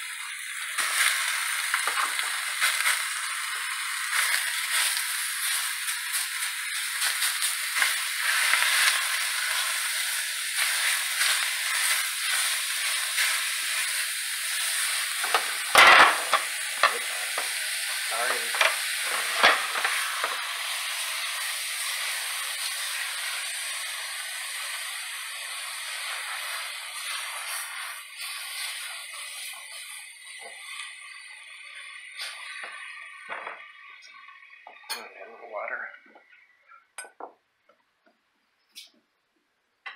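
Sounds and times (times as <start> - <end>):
meat sizzling in a pan: 0.0 - 34.8.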